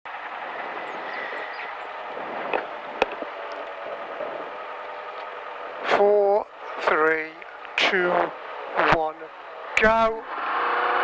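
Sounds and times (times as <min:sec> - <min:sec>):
car engine idling: 0:00.1 - 0:10.9.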